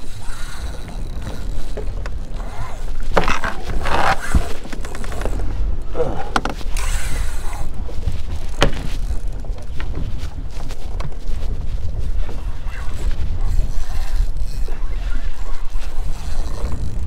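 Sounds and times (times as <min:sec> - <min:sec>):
fishing rod and reel handled: 0:00.0 - 0:17.0
wind rumbling on microphone: 0:00.0 - 0:17.0.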